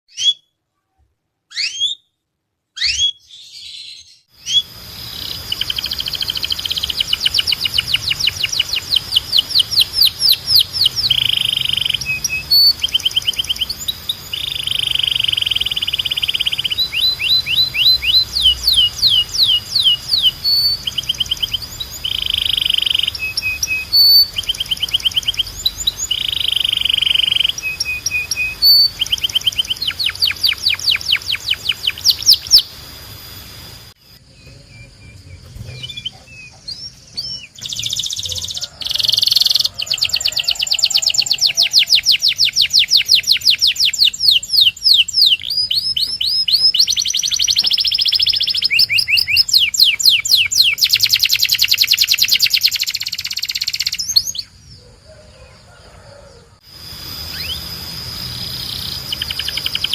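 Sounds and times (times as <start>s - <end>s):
canary singing: 0.1s - 0.6s, 1.5s - 2.2s, 2.8s - 59.9s.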